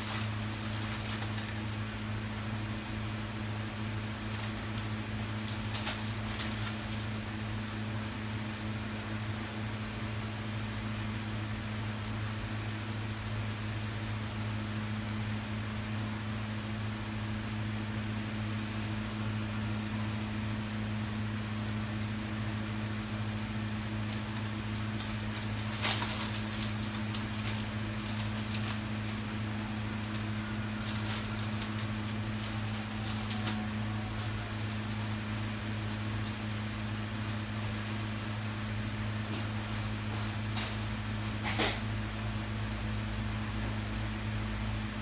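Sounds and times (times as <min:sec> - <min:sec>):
low electrical hum: 0:00.0 - 0:45.0.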